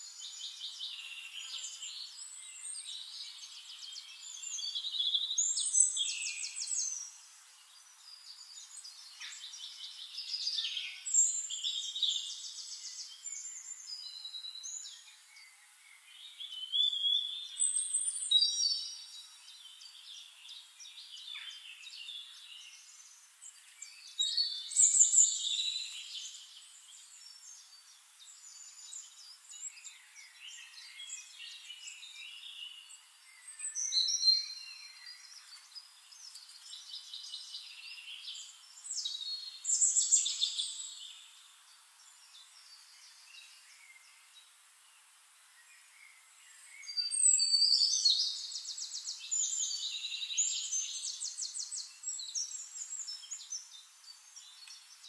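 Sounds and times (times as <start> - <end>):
faint steady hiss: 0.0 - 55.0
songbirds singing and chirping: 0.0 - 55.0.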